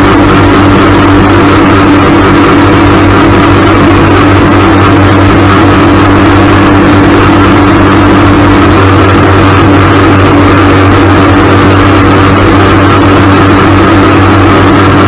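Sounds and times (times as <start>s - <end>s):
engine and propeller running: 0.0s - 15.0s
wind rushing over microphone: 0.0s - 15.0s.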